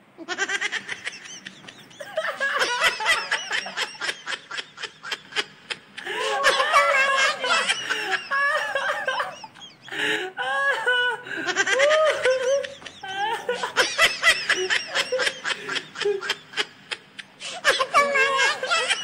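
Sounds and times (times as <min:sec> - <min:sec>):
man laughing uncontrollably: 0:00.2 - 0:19.0.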